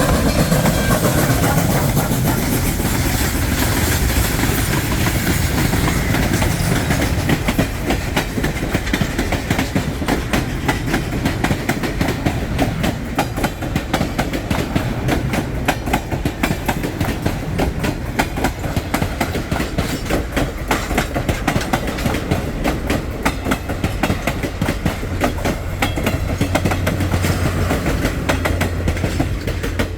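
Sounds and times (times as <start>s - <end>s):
train rumble: 0.0s - 29.9s
train wheels clicking over rail joints: 0.0s - 29.9s.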